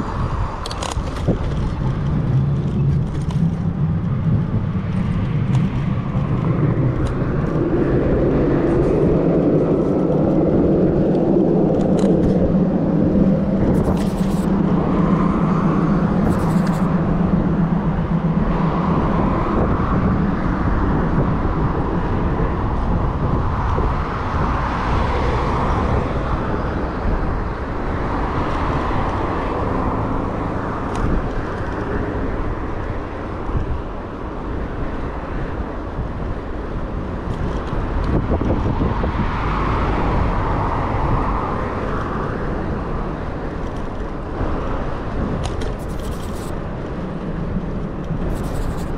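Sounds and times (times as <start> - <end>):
cars passing by: 0.0 - 48.9
road traffic: 0.0 - 48.9
wind rumble on microphone: 0.0 - 48.9.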